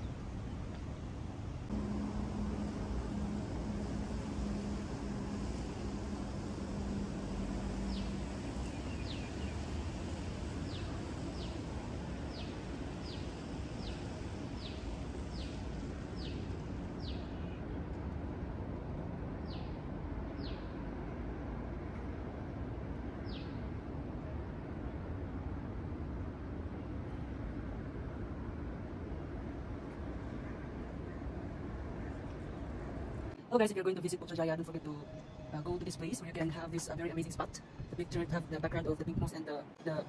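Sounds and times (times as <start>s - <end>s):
low hum: 0.0s - 39.3s
outdoor background noise: 0.0s - 40.0s.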